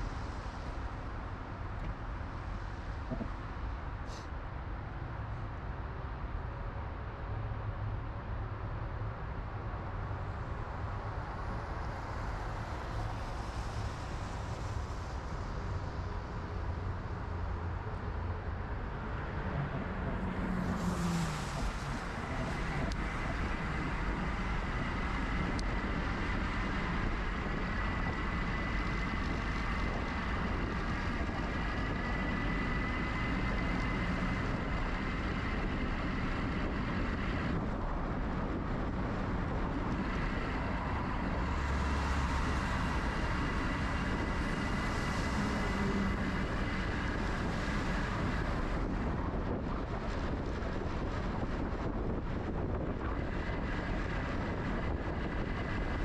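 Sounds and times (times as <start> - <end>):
traffic: 0.0 - 56.0
faint steady whine: 9.9 - 56.0
bicycle road noise: 10.2 - 56.0
wind rushing over microphone: 10.2 - 56.0.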